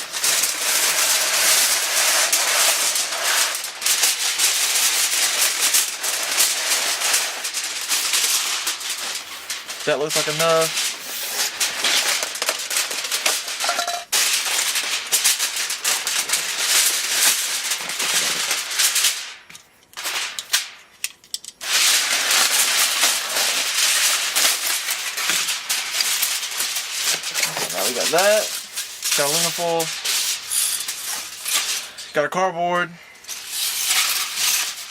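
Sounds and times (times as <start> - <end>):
aluminium foil crinkling: 0.0 - 32.2, 33.1 - 34.9.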